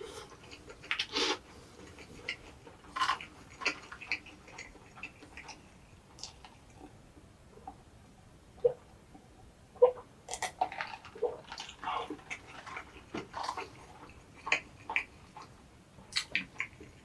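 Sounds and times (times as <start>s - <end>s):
mouth clicks and lip smacks chewing: 0.2s - 7.0s, 9.8s - 17.0s.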